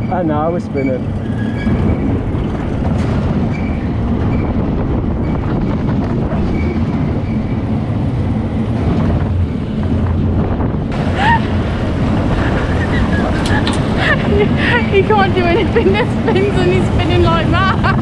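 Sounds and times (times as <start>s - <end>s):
roller coaster wheels rumbling: 0.0s - 18.0s.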